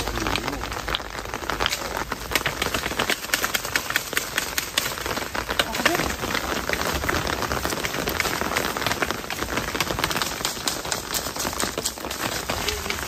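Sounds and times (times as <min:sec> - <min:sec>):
rain on foliage: 0:00.0 - 0:13.0.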